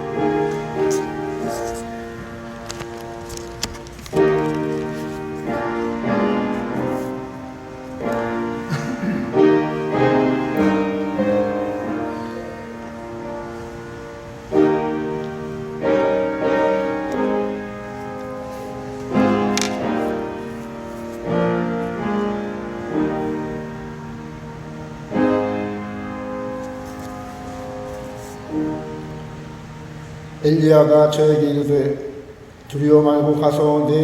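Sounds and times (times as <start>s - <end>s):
piano playing slow chords: 0.0s - 34.0s.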